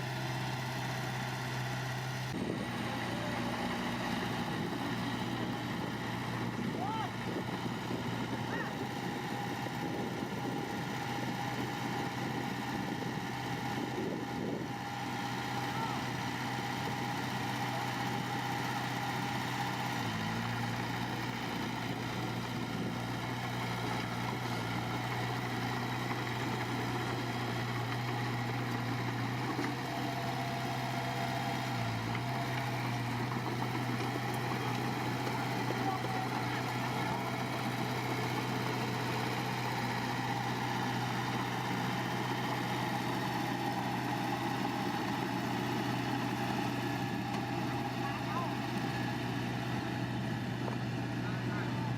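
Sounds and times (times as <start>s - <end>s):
diesel engine running steadily: 0.0s - 51.9s.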